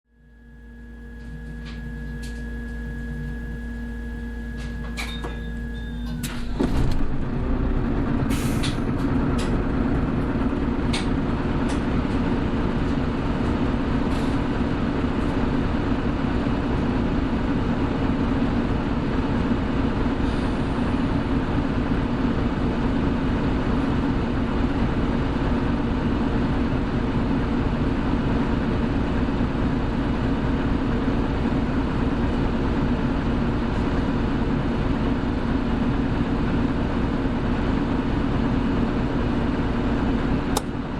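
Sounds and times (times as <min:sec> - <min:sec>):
bus engine hum: 0:00.2 - 0:40.9.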